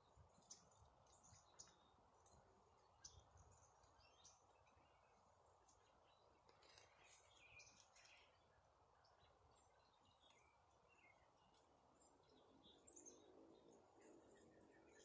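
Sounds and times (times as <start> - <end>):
faint bird chirps: 0.0 - 15.0
faint outdoor hiss: 0.0 - 15.0.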